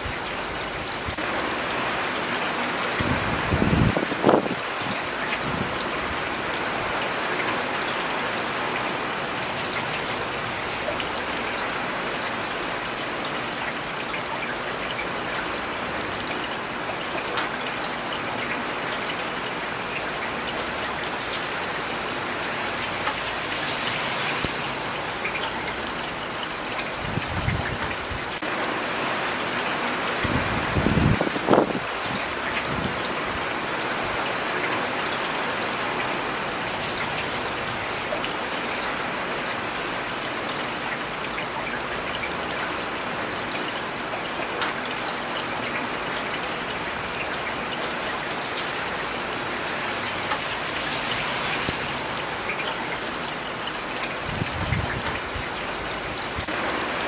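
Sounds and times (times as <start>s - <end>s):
rain on hard surfaces: 0.0s - 57.0s.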